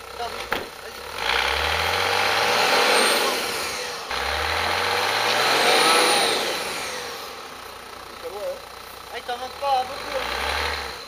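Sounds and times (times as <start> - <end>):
engine revving hard: 0.2 - 8.0, 9.3 - 11.0.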